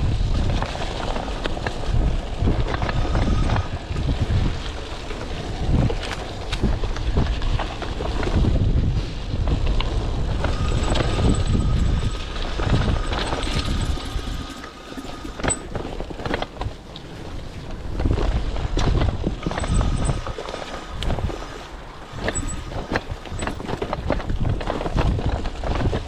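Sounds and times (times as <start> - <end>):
bike rattling over bumps: 0.0 - 26.0
wind rumble on microphone: 0.0 - 26.0.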